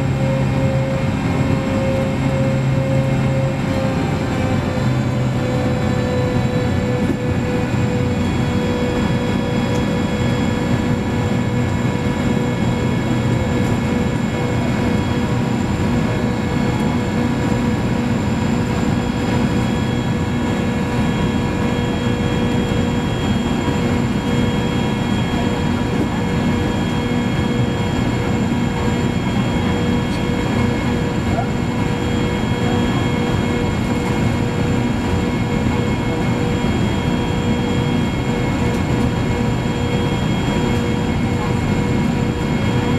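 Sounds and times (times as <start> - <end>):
jetfoil engines roaring with whine: 0.0 - 42.9.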